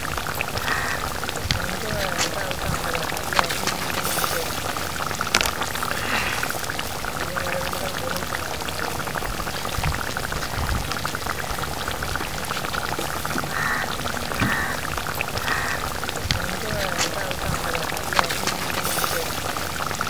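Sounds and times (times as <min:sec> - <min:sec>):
curry bubbling at a simmer: 0:00.0 - 0:20.0.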